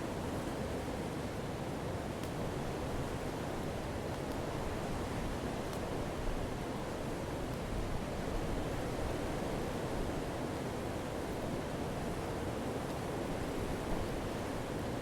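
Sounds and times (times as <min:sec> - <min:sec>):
faint fire crackles: 0:01.9 - 0:15.0.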